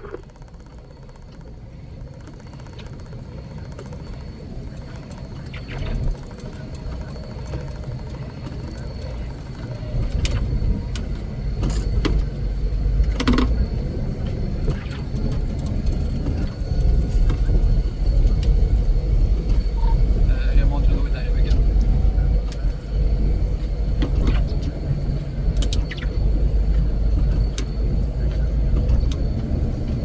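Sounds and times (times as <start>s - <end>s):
heavy engine rumbling: 0.0s - 30.0s.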